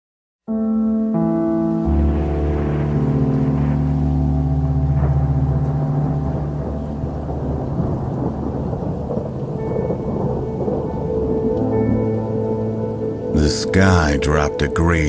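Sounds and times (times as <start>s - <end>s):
thunder rumbling: 1.6s - 15.0s.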